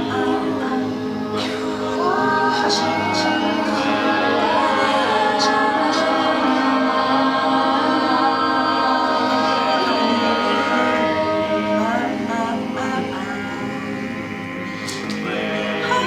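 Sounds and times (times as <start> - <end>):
voices singing a cappella harmony: 0.0 - 16.0.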